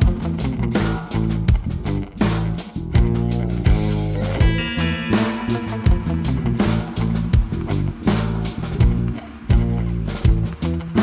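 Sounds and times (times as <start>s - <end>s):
guitar-led music with bass and beat: 0.0s - 11.0s.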